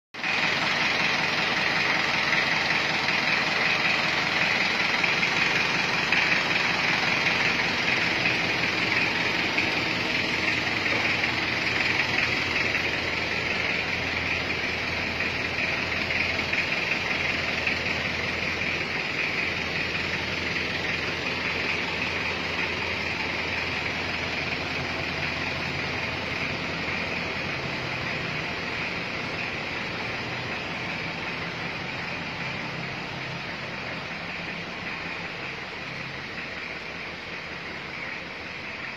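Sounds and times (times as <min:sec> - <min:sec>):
engine idling with clatter: 0:00.2 - 0:38.9.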